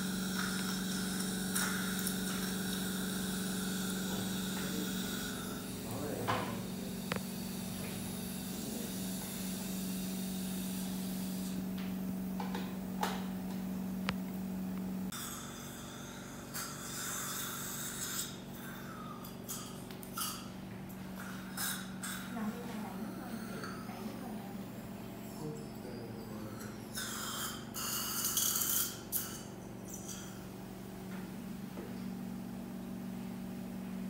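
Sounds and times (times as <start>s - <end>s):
dental motor hum: 0.0s - 34.0s.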